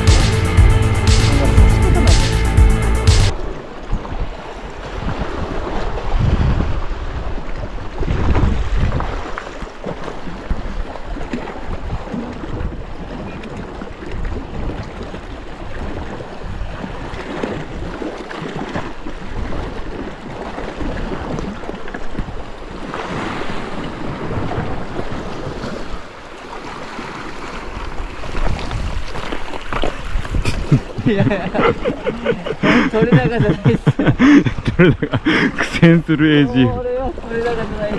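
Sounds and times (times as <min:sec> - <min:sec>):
wind rumbling on microphone: 0:03.3 - 0:26.1, 0:27.6 - 0:35.3
sea waves washing against rocks: 0:03.3 - 0:37.9.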